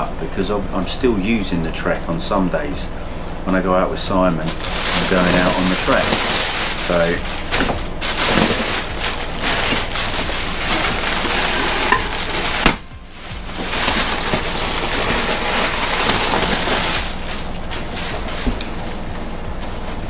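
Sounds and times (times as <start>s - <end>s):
packaging crackling and rustling: 3.6s - 20.0s.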